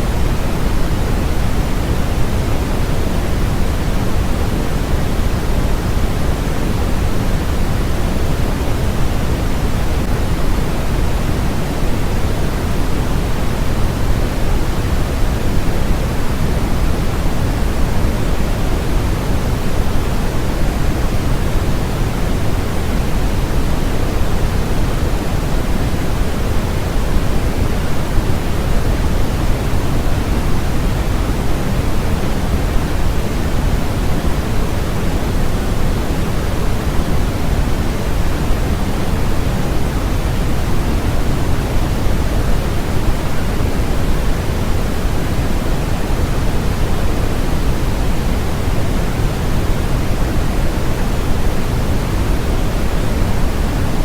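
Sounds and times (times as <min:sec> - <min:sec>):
deep white noise hiss: 0:00.0 - 0:54.0.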